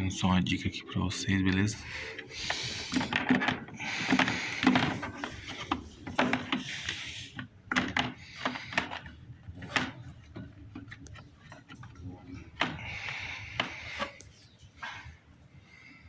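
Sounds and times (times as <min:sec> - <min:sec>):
parts clicking and knocking: 0:02.1 - 0:15.2.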